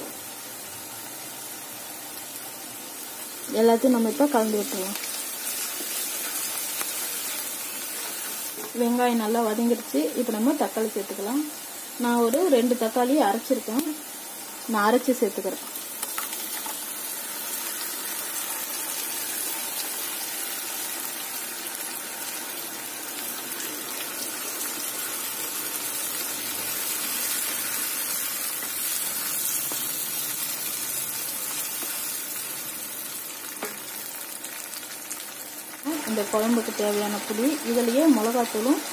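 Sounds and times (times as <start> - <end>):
tomato sizzling in hot oil: 0.0 - 38.9.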